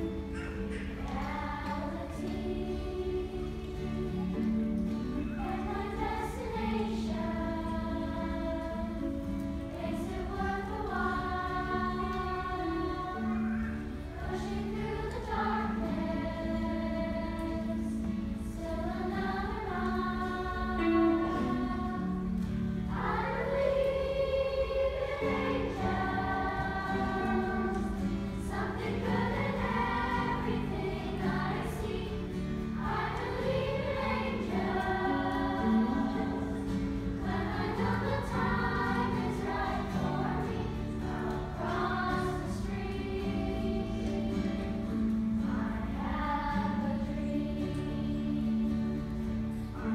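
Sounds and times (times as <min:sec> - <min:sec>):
children's choir singing: 0:00.0 - 0:49.9
guitar playing held notes: 0:00.0 - 0:49.9.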